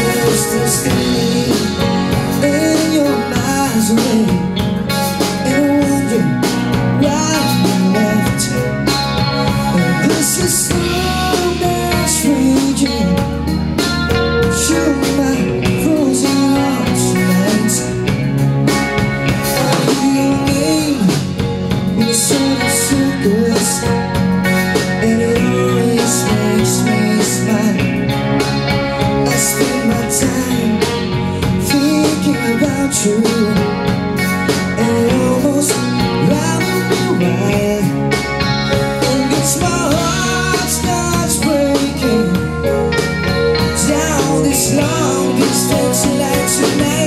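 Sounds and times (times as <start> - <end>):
man singing: 0.0 - 18.5, 19.3 - 47.0
drum kit with cymbals: 0.0 - 47.0
electric bass: 0.0 - 47.0
electric guitar: 0.0 - 47.0
keyboards: 0.0 - 47.0.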